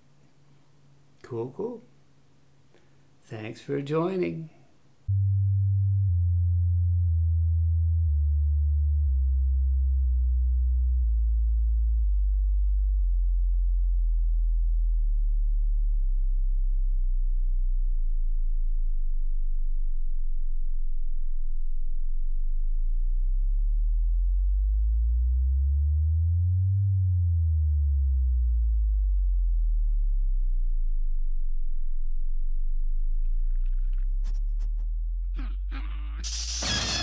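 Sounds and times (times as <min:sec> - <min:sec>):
bass sine drone: 0:05.1 - 0:37.0.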